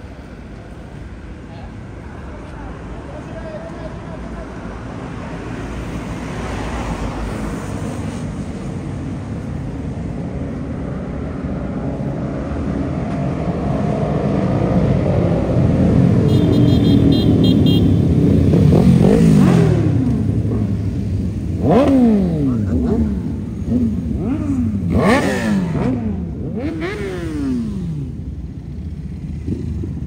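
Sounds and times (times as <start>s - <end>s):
motorcycles riding past: 1.4s - 30.0s.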